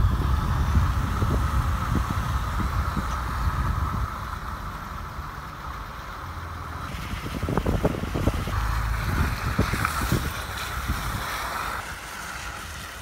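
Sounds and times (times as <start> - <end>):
wind buffeting microphone: 0.0 - 5.4, 6.8 - 13.0
vehicle engine and tyre rumble: 0.0 - 13.0.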